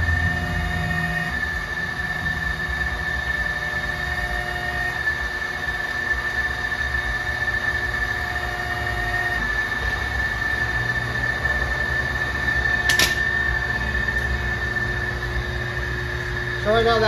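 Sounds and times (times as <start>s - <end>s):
low machine tone: 0.0s - 17.0s
roller machine high whine: 0.0s - 17.0s.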